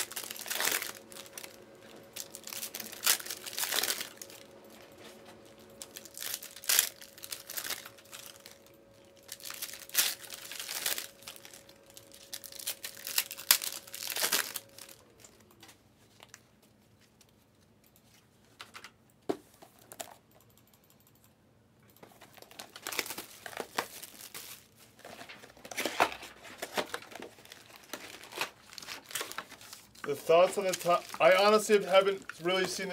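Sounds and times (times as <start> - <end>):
plastic wrapping crinkling and tearing: 0.0 - 17.3, 22.1 - 32.9.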